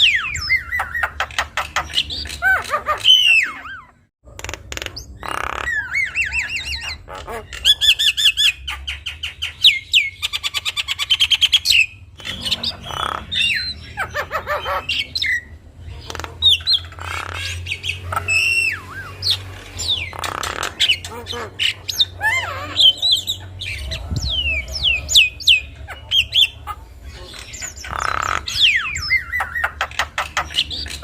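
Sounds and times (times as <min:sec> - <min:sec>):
myna bird singing: 0:00.0 - 0:31.0.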